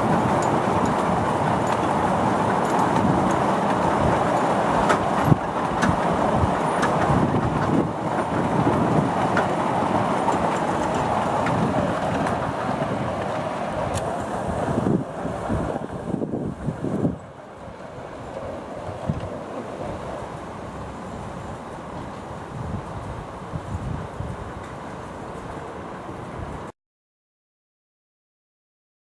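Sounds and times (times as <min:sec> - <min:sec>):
miniature train wheels rumbling: 0:00.0 - 0:26.7.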